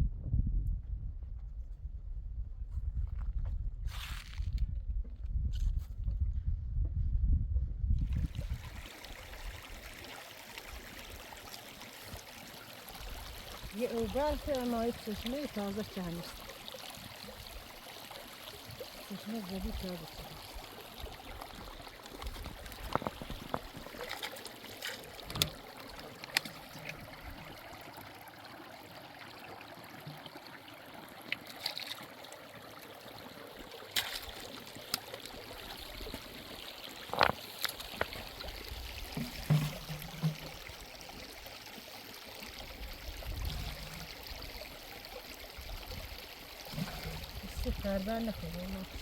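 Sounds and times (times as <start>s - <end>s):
spring water trickling: 8.0s - 49.0s.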